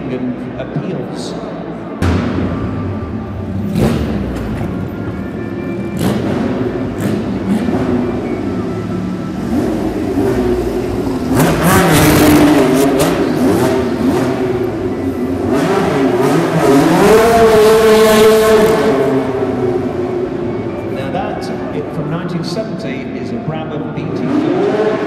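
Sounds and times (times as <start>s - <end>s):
racing car engine revving: 2.0s - 25.0s.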